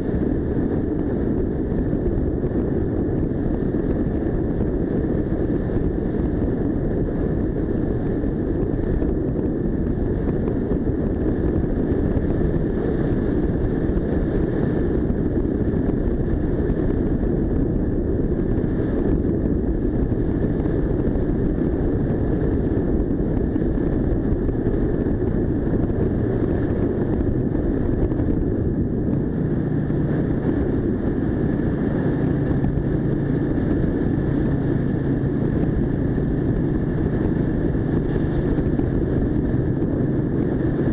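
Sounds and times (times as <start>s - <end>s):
low steady hum: 0.0s - 40.9s
motorcycle engine at steady speed: 0.0s - 40.9s
wind and road noise: 0.0s - 40.9s.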